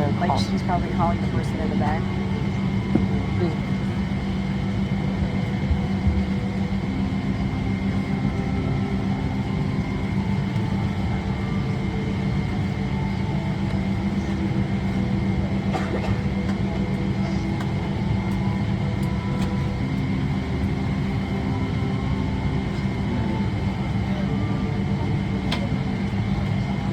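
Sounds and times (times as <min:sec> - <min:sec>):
cabin air conditioning hum: 0:00.0 - 0:24.8
thin steady whine: 0:00.0 - 0:26.9.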